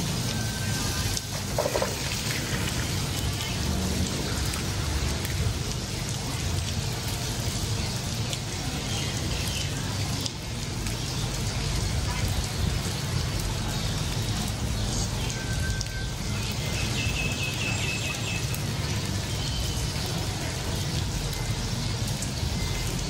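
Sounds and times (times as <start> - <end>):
rain on a wet street: 0.0 - 23.0.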